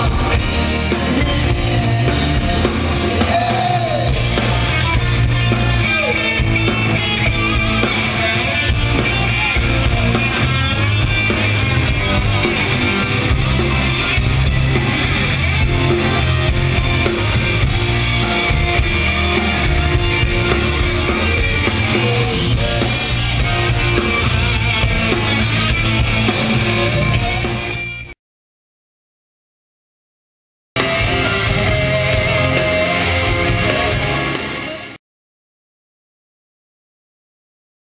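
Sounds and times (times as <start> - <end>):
steady drum beat: 0.0 - 28.0, 30.8 - 34.8
guitar: 0.0 - 28.2, 30.8 - 35.0
rock band playing: 0.0 - 28.2, 30.8 - 35.0.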